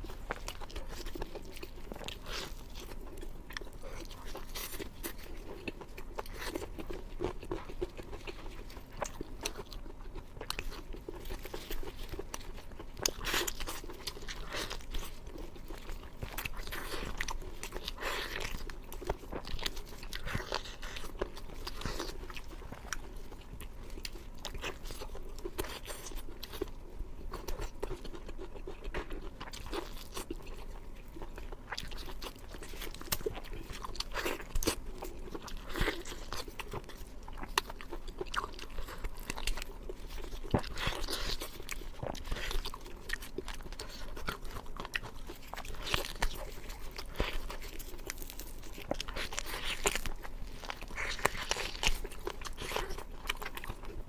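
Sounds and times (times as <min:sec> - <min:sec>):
crispy food being chewed: 0:00.0 - 0:54.0.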